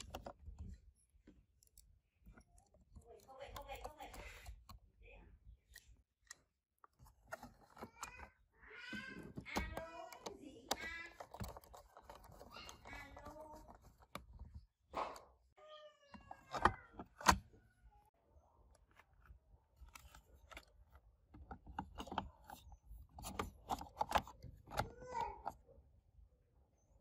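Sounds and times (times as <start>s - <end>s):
plastic parts clicking and knocking: 0.0s - 4.9s, 5.6s - 15.2s, 16.1s - 17.6s, 18.7s - 25.6s.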